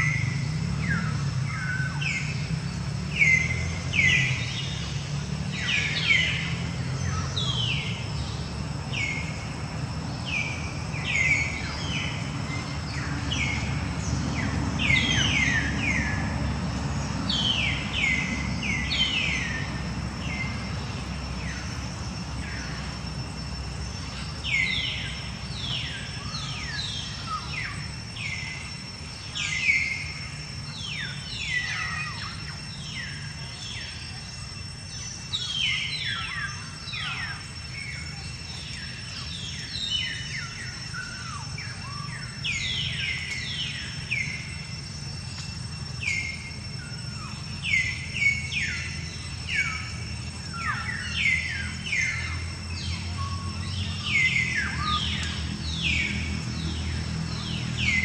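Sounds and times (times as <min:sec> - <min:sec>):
birds chirping in a chorus: 0:00.0 - 0:58.0.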